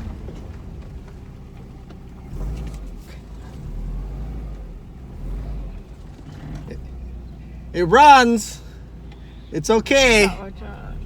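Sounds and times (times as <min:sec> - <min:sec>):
car engine rumble from inside cabin: 0:00.0 - 0:11.0.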